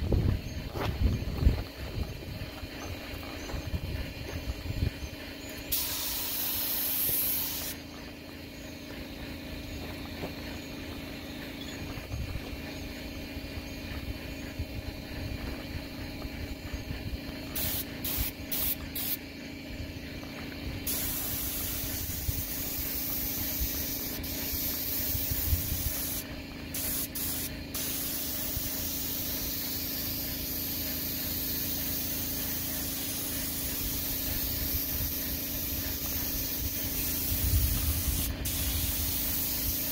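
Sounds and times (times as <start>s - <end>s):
steady low hum: 0.0s - 39.9s
paint spray gun hissing: 5.2s - 39.9s.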